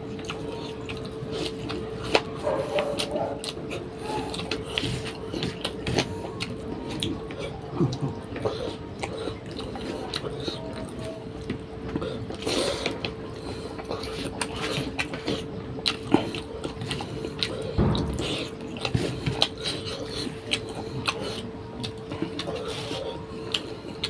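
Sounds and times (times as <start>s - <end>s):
person chewing and smacking food: 0.0s - 24.0s.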